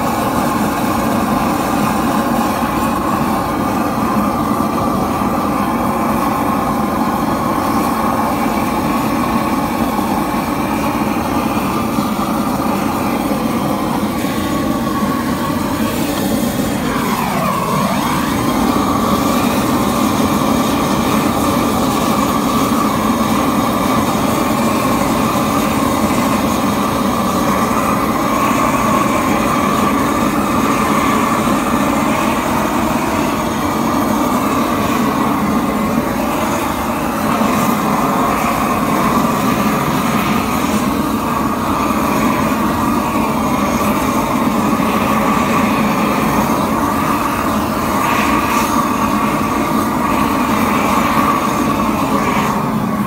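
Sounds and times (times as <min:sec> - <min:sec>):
roofing torch burning loudly: 0:00.0 - 0:53.0.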